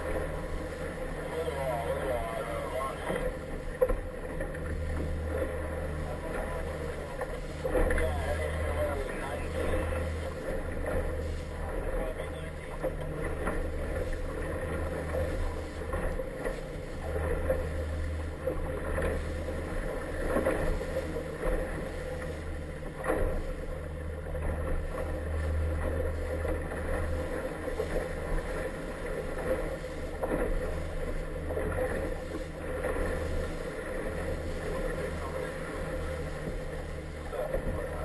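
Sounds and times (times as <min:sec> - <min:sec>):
hull slapping waves: 0:00.0 - 0:38.0
motorboat engine: 0:00.0 - 0:38.0.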